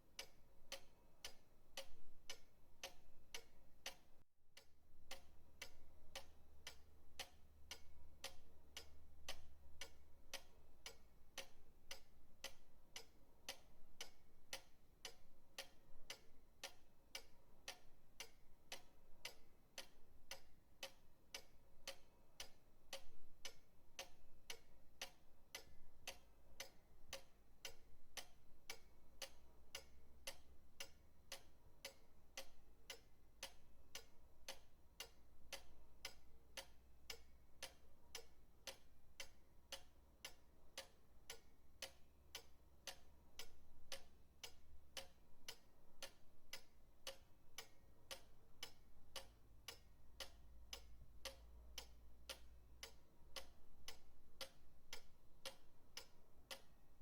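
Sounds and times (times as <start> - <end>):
pendulum clock ticking: 0.0 - 57.0.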